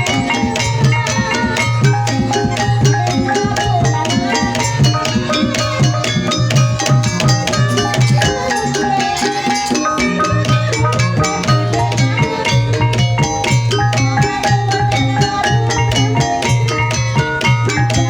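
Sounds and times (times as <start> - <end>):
percussion ensemble drums: 0.0 - 18.0
pitched percussion melody: 0.0 - 18.0.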